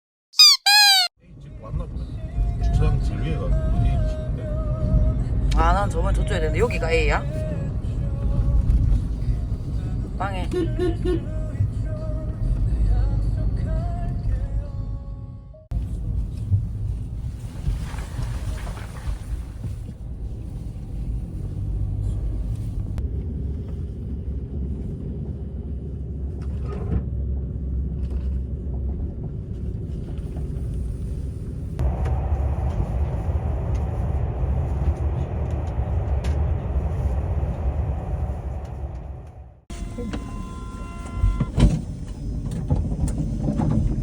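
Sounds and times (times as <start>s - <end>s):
car road rumble from inside: 1.2s - 44.0s.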